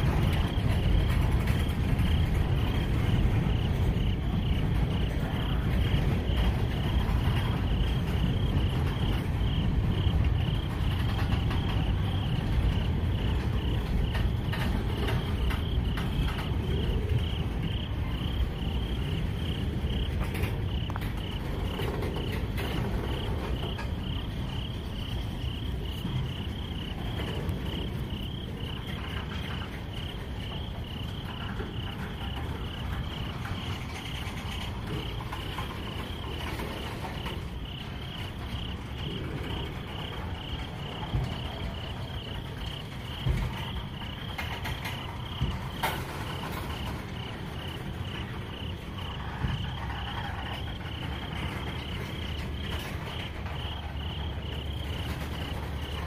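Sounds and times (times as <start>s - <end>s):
faint wheel clanks: 0.0s - 56.0s
freight train cars rumbling: 0.0s - 56.0s
insect chirping: 0.0s - 56.0s.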